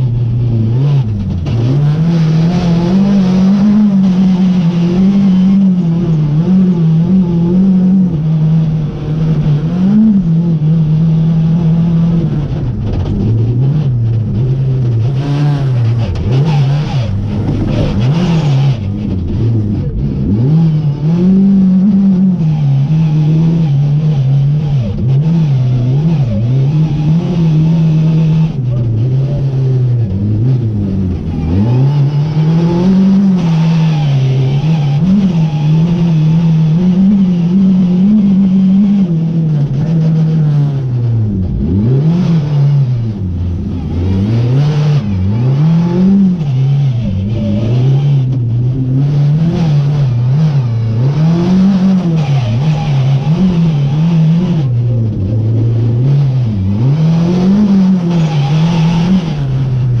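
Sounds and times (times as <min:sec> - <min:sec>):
rally car engine revving: 0:00.0 - 1:00.0.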